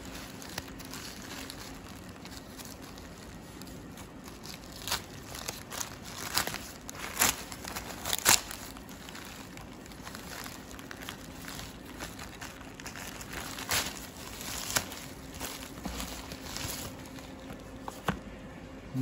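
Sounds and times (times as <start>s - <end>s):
plastic mailer bag crinkling: 0.0s - 18.2s.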